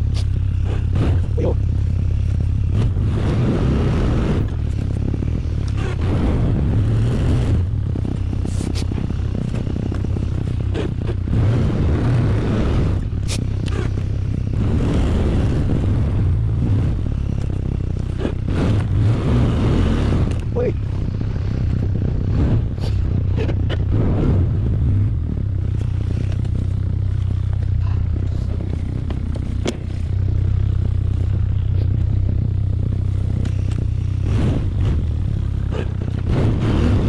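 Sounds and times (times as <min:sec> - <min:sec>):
atv engine running under load: 0:00.0 - 0:37.0.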